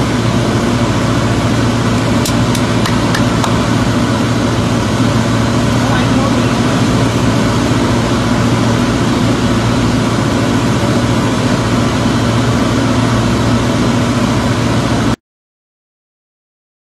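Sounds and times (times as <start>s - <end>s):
airplane engine and propeller droning: 0.0s - 15.2s.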